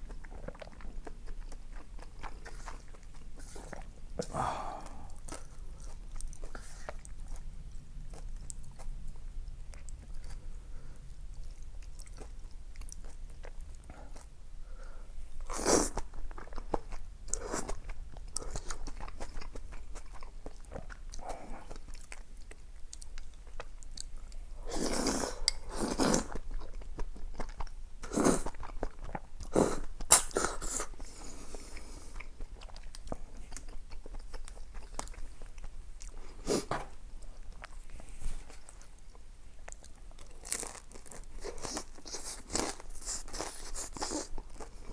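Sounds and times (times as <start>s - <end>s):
person chewing crunchy food: 0.0s - 14.3s, 15.4s - 44.9s.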